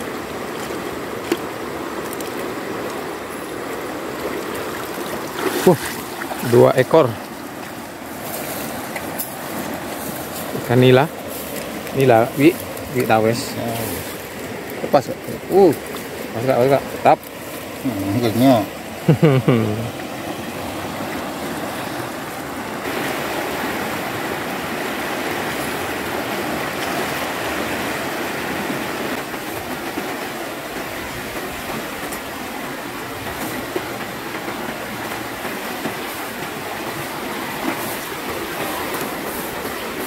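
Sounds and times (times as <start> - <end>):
river rushing over rapids: 0.0 - 40.0.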